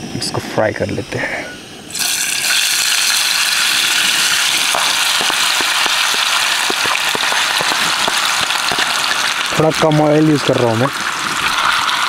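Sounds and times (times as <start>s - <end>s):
potatoes sizzling in oil: 1.9s - 12.0s.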